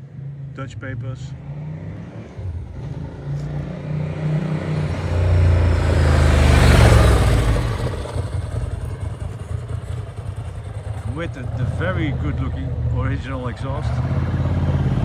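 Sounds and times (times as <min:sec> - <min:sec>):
motorcycle v-twin engine running: 0:02.4 - 0:15.0.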